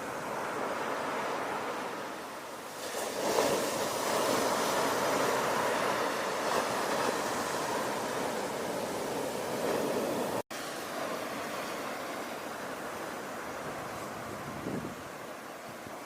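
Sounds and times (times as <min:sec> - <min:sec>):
foamy water washing: 0:00.0 - 0:16.0
ocean wave breaking: 0:00.0 - 0:16.0.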